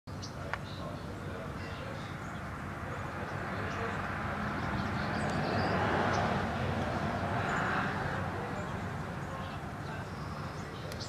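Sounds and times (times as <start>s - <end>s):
passing vehicle tyre noise: 2.1s - 11.0s.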